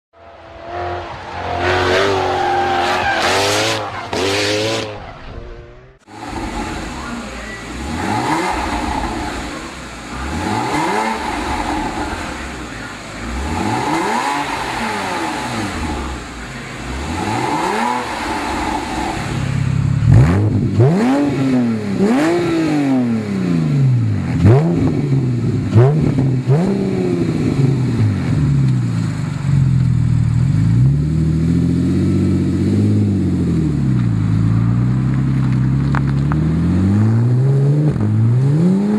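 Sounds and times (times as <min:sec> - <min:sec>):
car engine revving: 0:00.1 - 0:38.9.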